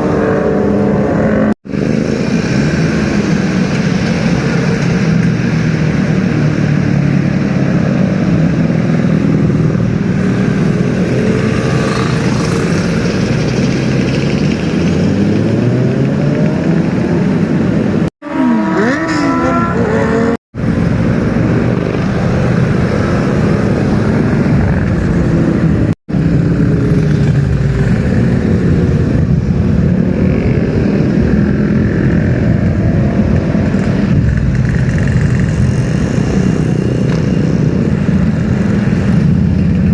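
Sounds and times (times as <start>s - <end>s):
motorbike engines revving: 0.0s - 39.9s.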